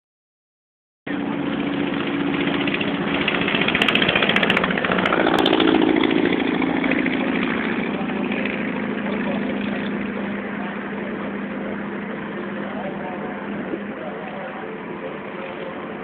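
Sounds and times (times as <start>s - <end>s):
propeller plane engine: 1.1s - 16.0s.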